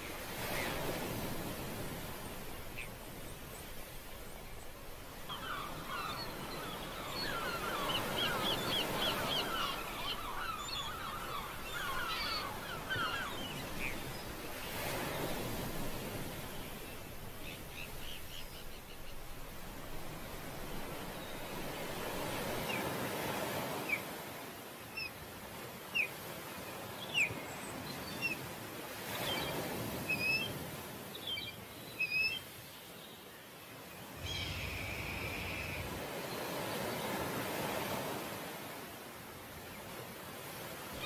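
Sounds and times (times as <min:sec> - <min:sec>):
ocean surf washing: 0:00.0 - 0:31.1, 0:33.7 - 0:41.0.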